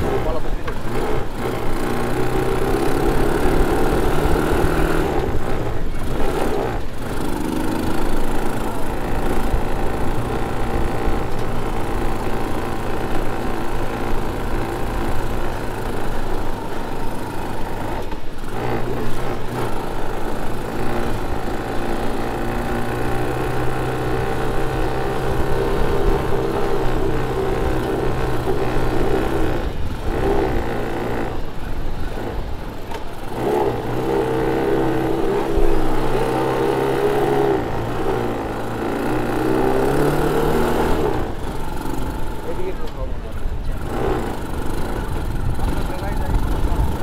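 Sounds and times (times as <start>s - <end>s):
quad bike engine running: 0.0s - 47.0s.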